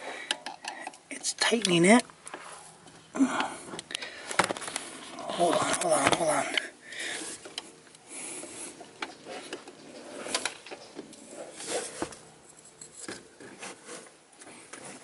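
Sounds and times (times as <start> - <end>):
faint handling noise: 0.2 - 15.0.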